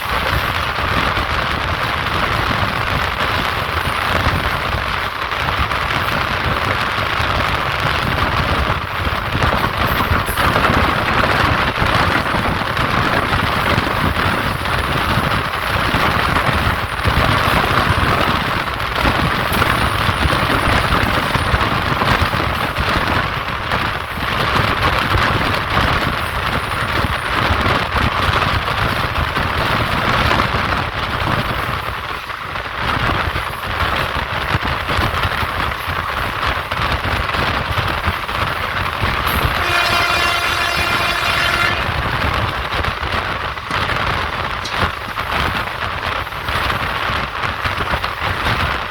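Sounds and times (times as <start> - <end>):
train wheels on rails: 0.0 - 48.9.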